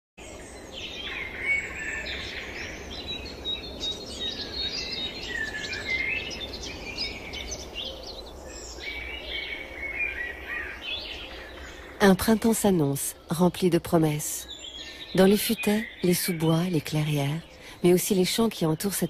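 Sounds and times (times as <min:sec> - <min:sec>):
songbirds singing: 0:00.2 - 0:19.0.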